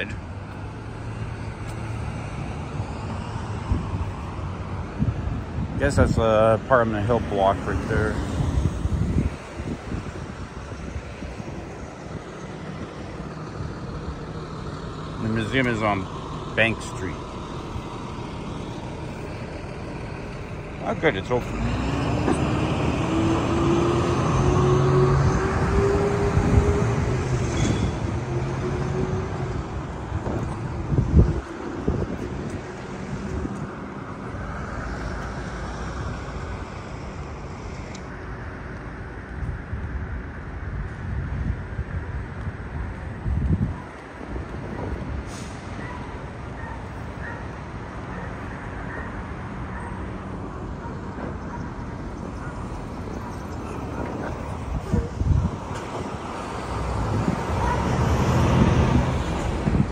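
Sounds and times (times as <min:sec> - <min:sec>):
street traffic noise: 0:00.0 - 0:59.9
vehicle engine humming: 0:00.0 - 0:59.9.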